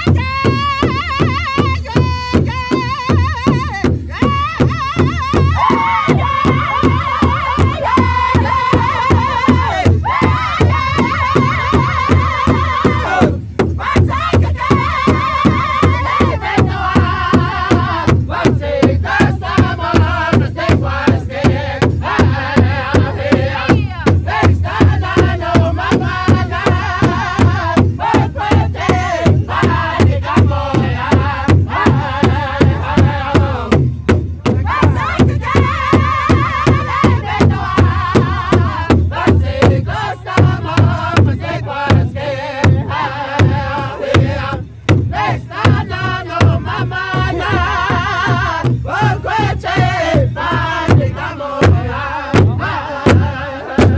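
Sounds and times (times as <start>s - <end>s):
large hand drum beating: 0.0s - 53.9s
men singing chanted song: 0.0s - 53.9s.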